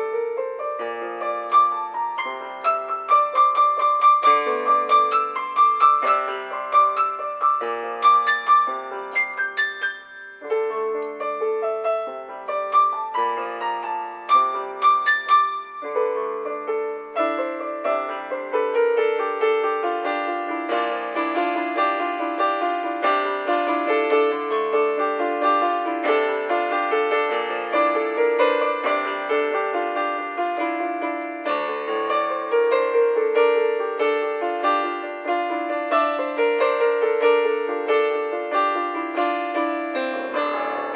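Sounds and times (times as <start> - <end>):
solo piano music: 0.0 - 40.9.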